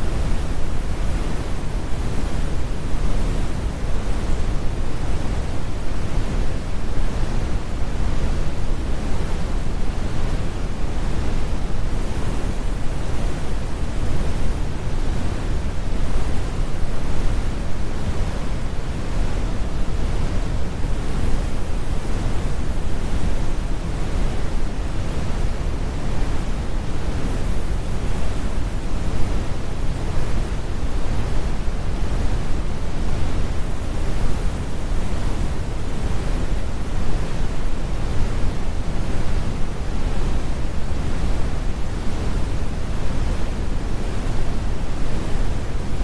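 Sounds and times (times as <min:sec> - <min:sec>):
brown noise rumble: 0:00.0 - 0:46.0.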